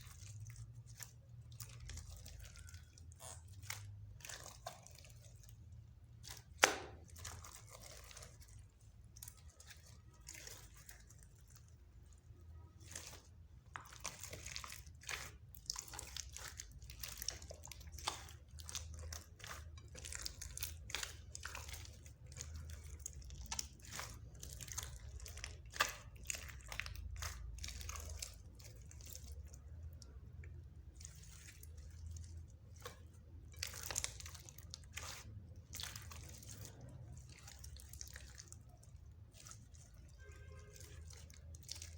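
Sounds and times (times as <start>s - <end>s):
slime squelching wet clicks: 0.0s - 41.9s.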